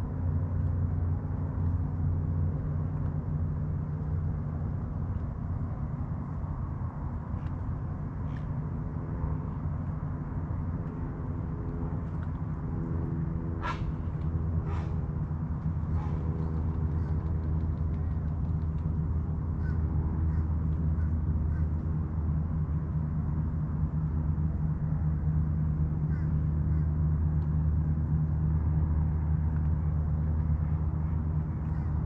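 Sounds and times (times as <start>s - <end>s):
motorboat engine: 0.0s - 32.0s.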